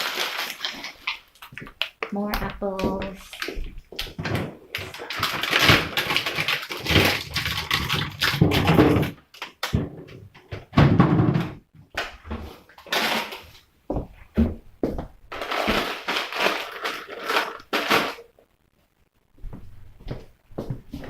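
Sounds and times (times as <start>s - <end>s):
containers clunking and knocking: 0.0s - 18.1s
plastic bags rustling: 0.0s - 18.4s.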